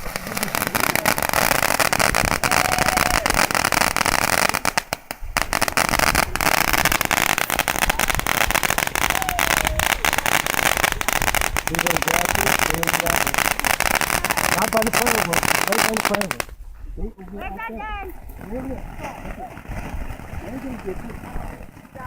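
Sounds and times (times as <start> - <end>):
fireworks crackling and popping: 0.0 - 16.6, 17.2 - 22.0.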